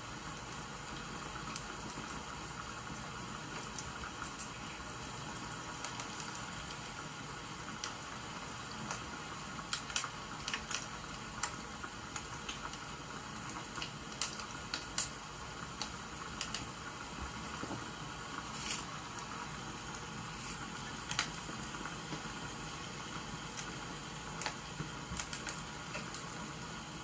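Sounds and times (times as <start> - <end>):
rain hiss: 0.0 - 27.0
fire crackling and popping: 0.3 - 27.0.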